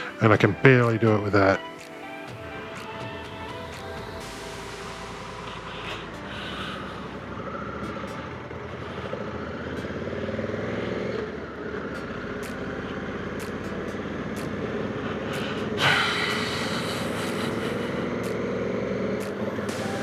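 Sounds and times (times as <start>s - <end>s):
loud rush of noise: 0.0s - 20.0s.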